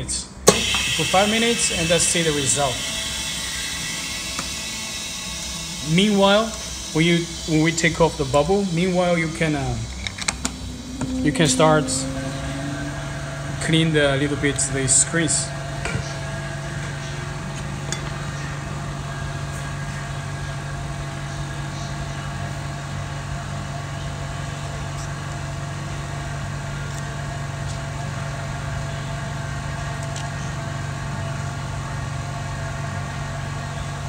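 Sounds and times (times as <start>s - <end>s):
electric equipment humming: 0.0s - 34.0s.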